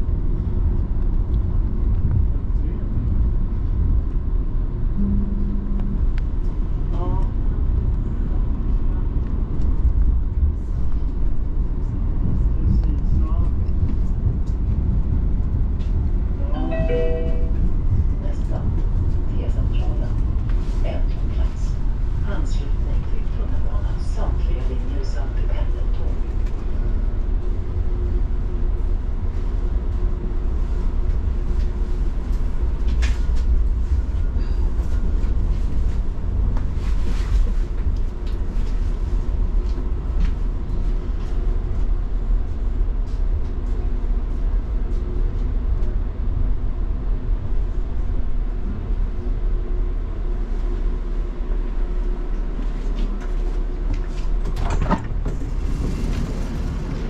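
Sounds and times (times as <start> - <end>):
tram wheels rumbling: 0.0 - 57.0.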